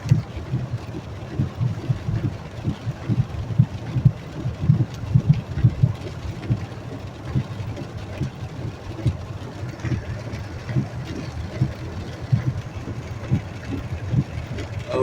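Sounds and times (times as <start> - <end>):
car cabin rumble: 0.0 - 15.0
hail thudding on car: 0.0 - 15.0.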